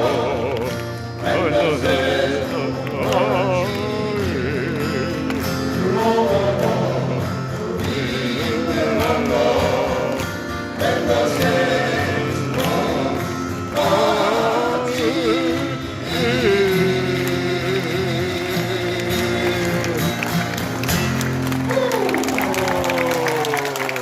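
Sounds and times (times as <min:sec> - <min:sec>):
male vocal quartet singing: 0:00.0 - 0:20.5
acoustic guitar: 0:00.0 - 0:24.0.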